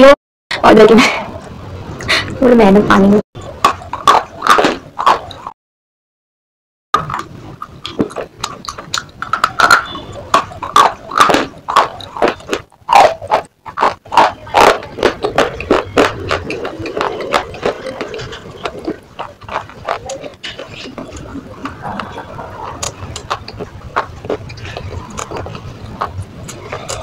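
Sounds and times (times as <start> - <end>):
slate being chewed: 3.4 - 5.5, 7.0 - 27.0.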